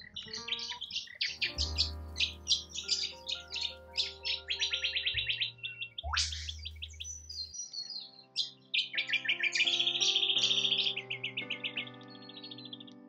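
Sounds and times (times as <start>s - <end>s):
birds chirping: 0.0s - 13.0s
soft background music: 0.0s - 13.0s.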